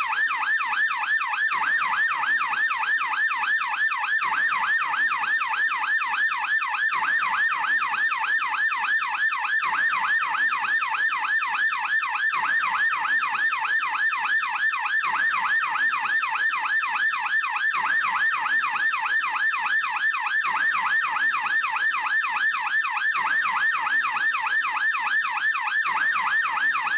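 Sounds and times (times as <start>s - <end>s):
police siren yelping: 0.0s - 26.9s.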